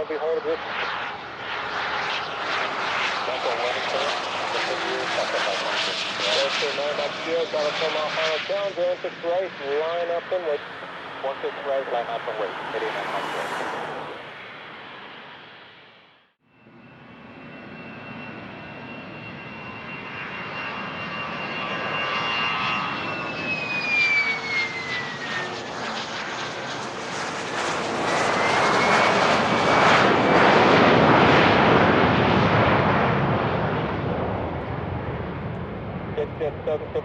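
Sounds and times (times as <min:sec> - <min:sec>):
jet engines passing: 0:00.0 - 0:37.0.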